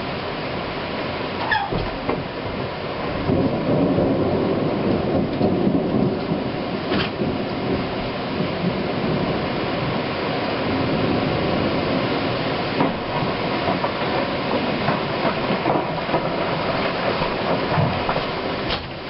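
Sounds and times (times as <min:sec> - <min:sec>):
heavy rain: 0:00.0 - 0:19.0
strong wind: 0:00.0 - 0:19.0.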